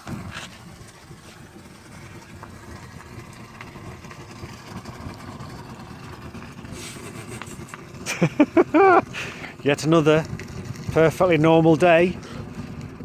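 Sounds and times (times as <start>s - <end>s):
furnace burner roaring: 0.0s - 13.0s.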